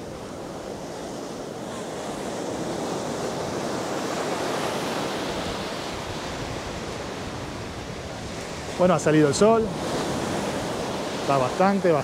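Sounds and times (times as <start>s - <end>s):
ocean surf on sandy beach: 0.0s - 12.0s
wind on microphone: 0.0s - 12.0s.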